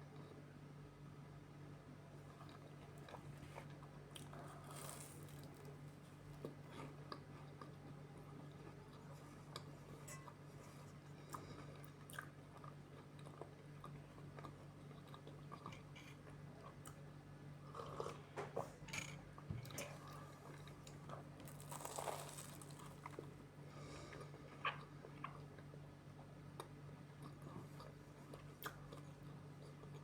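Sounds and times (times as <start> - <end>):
chewing with crunchy bites: 2.1 - 18.7, 19.3 - 23.4, 24.0 - 30.0.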